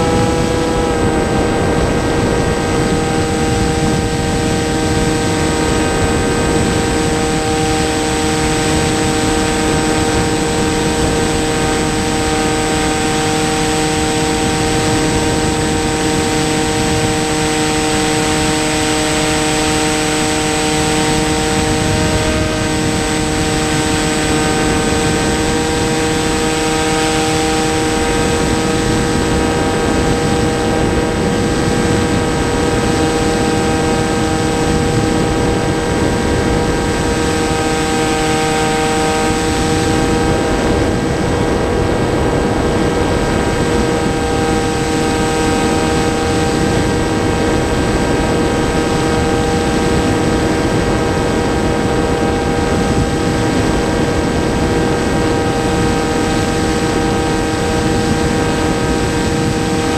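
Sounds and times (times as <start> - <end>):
model airplane motor and propeller: 0.0 - 59.9.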